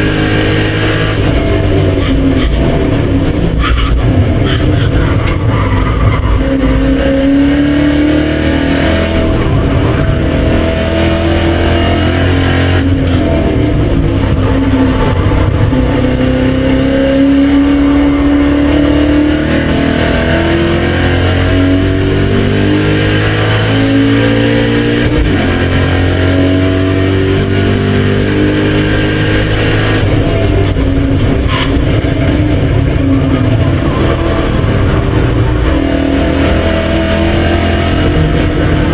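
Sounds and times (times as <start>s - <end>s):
car engine at full throttle: 0.0s - 38.9s.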